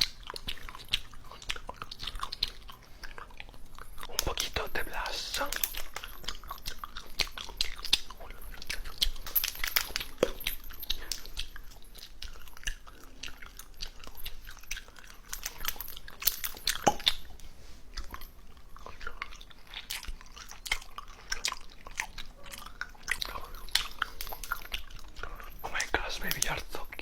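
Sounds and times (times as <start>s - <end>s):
small crisp clicks and crackles: 0.0s - 27.0s.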